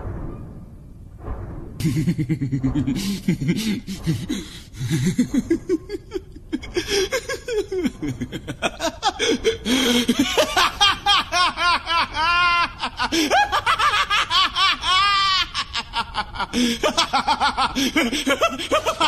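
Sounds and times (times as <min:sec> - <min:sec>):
man laughing villainously: 0:01.8 - 0:19.0.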